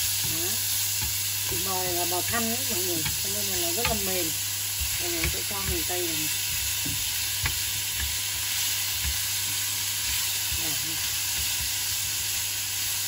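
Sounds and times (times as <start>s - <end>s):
beef and onion sizzling: 0.0s - 13.0s.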